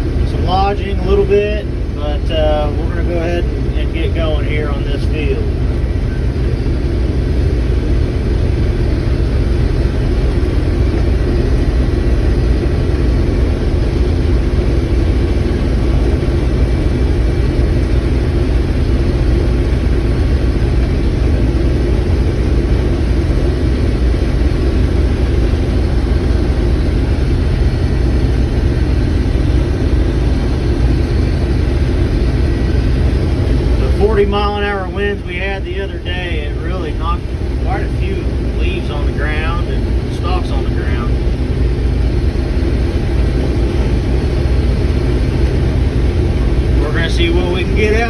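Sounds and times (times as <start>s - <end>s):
combine harvester engine drone: 0.0s - 48.0s
machine drives humming: 0.0s - 48.0s.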